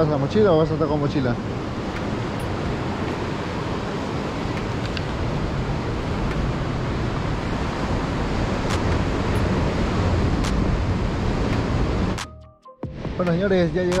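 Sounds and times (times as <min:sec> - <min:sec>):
sea surf on rocky shore: 0:00.0 - 0:12.2
wind rumbling on microphone: 0:00.0 - 0:12.3.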